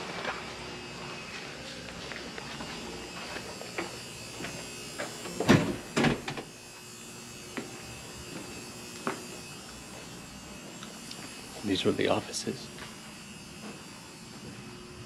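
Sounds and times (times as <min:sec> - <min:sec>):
electrical buzz: 0:00.0 - 0:15.0.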